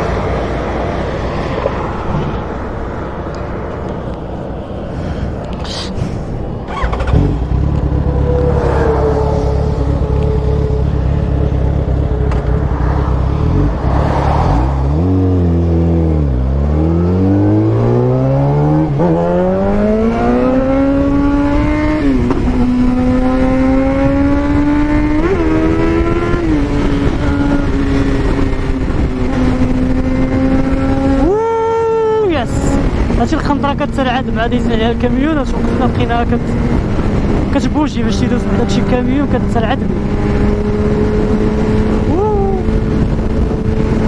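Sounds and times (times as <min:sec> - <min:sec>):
wind noise: 0:00.0 - 0:44.0
motorcycle engine accelerating: 0:06.5 - 0:32.0, 0:32.6 - 0:44.0.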